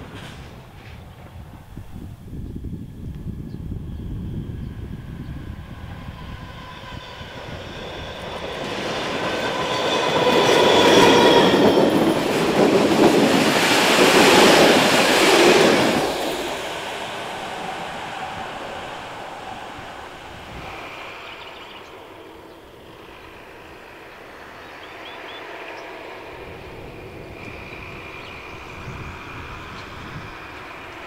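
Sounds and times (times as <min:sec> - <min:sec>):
train wheels on rails: 0:00.0 - 0:03.4, 0:04.5 - 0:31.0
passenger train passing: 0:00.0 - 0:31.0
steady whine: 0:02.2 - 0:31.0.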